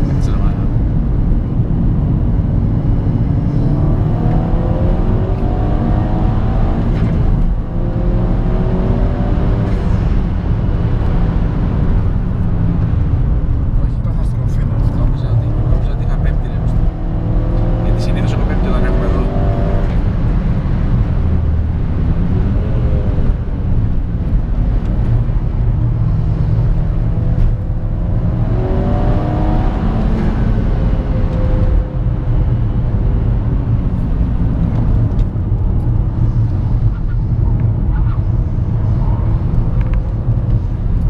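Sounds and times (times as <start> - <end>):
car engine revving: 0.0 - 41.0
road roar: 0.0 - 41.0.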